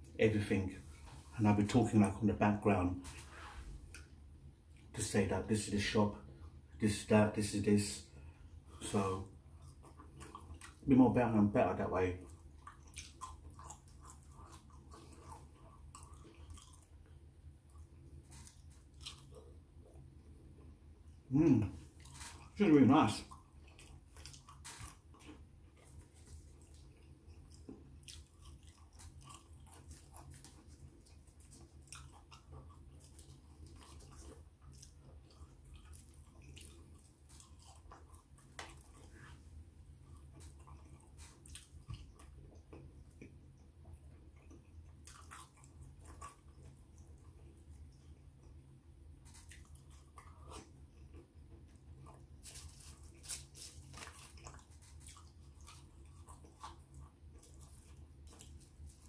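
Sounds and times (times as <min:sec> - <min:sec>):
low steady hum: 0:00.0 - 0:59.0
person chewing chips: 0:08.2 - 0:11.0, 0:12.2 - 0:20.2, 0:21.3 - 0:43.4, 0:44.1 - 0:59.0.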